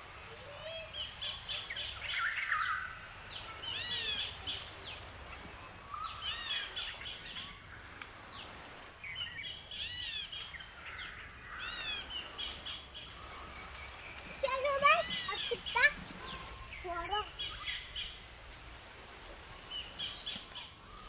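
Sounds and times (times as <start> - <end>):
small birds chirping: 0.2 - 21.0.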